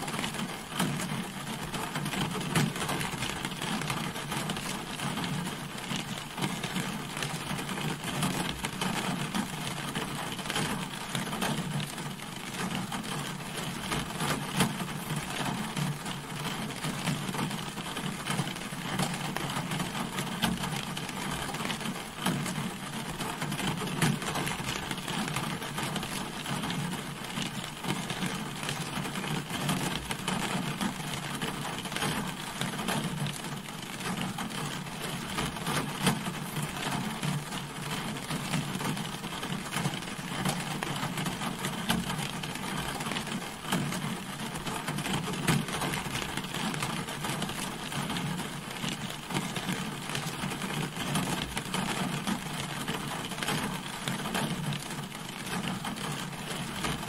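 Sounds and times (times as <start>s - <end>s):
rain falling on a car: 0.0s - 57.0s.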